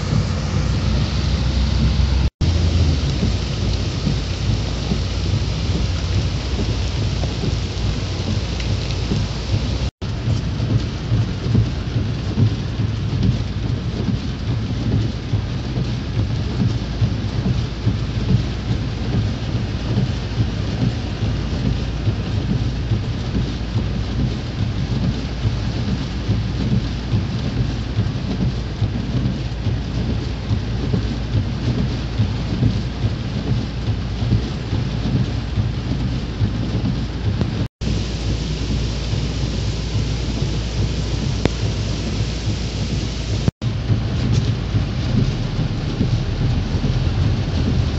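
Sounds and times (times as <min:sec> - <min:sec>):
heavy rain on car: 0:00.0 - 0:47.9
low car rumble: 0:00.0 - 0:47.9.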